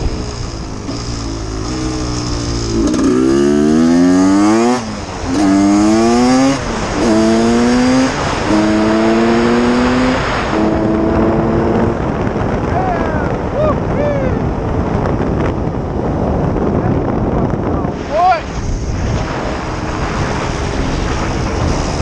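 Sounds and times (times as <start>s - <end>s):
motorcycle engine accelerating: 0.0s - 17.9s, 18.5s - 22.0s.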